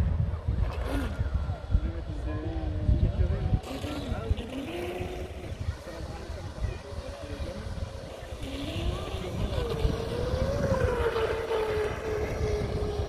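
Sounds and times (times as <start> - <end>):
wind rumbling on microphone: 0.0 - 13.0
model boat motor whining: 0.6 - 13.0.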